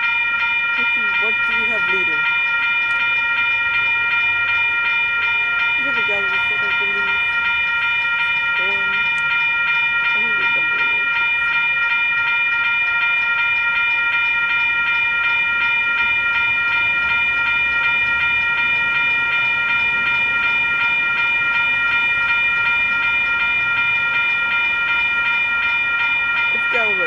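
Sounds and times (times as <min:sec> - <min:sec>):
railroad crossing bell ringing: 0:00.0 - 0:27.0.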